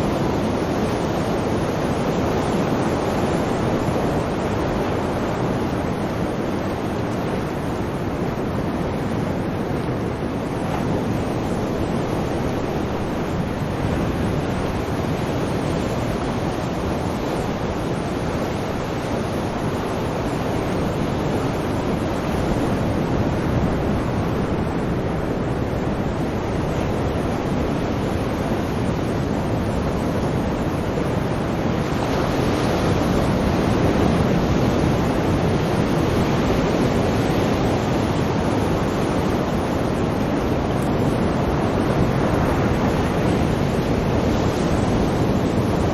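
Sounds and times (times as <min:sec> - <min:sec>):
sea waves washing on shore: 0:00.0 - 0:45.9.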